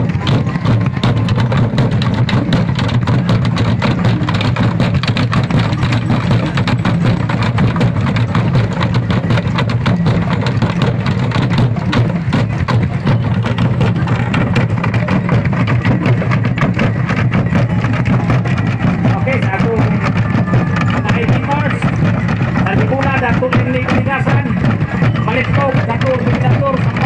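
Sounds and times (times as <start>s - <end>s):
fast loud drumming: 0.0s - 27.0s
heavy low rumble: 0.0s - 27.0s.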